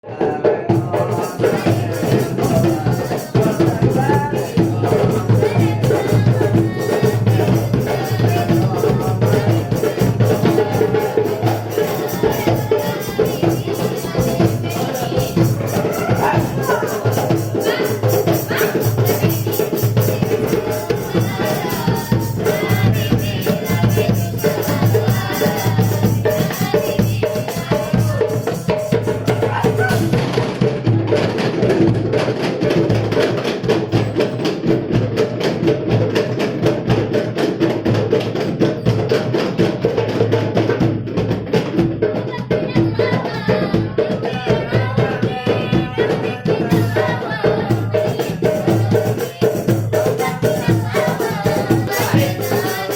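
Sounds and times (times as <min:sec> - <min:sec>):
hand drums playing fast rhythm: 0:00.0 - 0:52.9.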